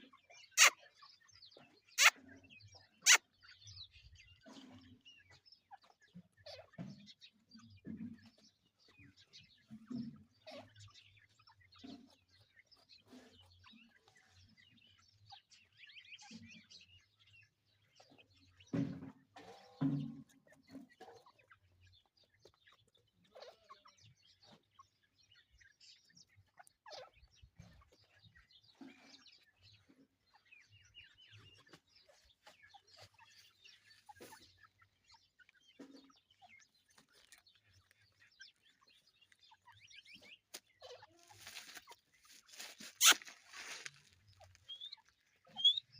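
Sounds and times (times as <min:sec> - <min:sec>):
francolin clucking: 0:00.0 - 0:14.1, 0:18.0 - 0:45.9
low bird calls: 0:00.0 - 0:45.9
small birds chirping: 0:00.0 - 0:45.9.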